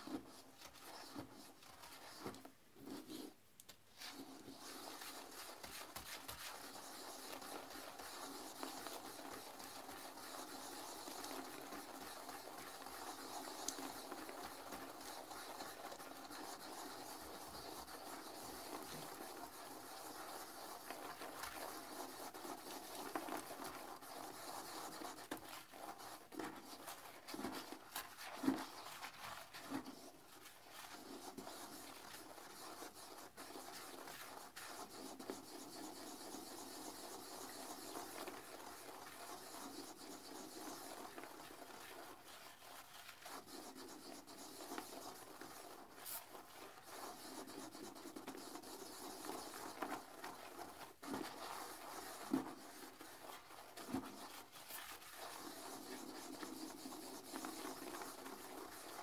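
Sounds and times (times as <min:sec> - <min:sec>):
toilet brush scrubbing bowl: 0:00.0 - 0:59.0.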